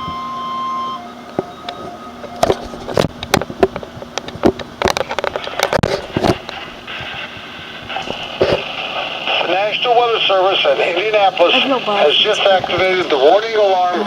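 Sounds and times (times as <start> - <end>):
radio static crackles and pops: 1.3 - 14.0
steady radio hiss: 1.3 - 14.0.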